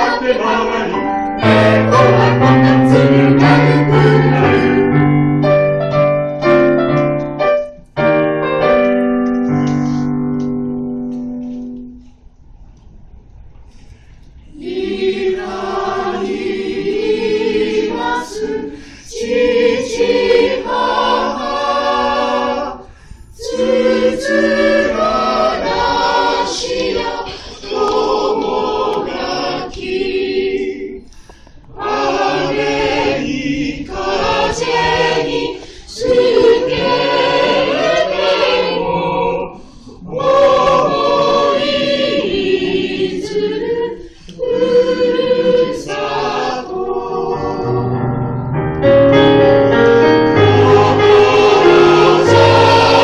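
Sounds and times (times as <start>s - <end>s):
small mixed choir singing: 0.0s - 5.7s, 14.4s - 48.3s, 50.0s - 53.0s.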